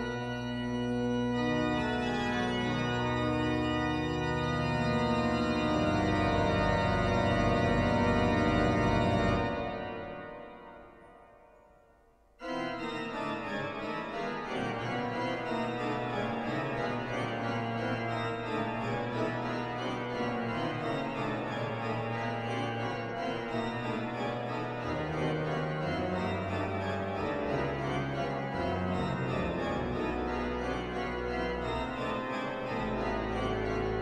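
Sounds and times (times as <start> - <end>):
deep organ pedal bass notes: 0.0 - 10.4, 12.8 - 34.0
pipe organ playing full chords: 0.0 - 11.5, 12.4 - 34.0.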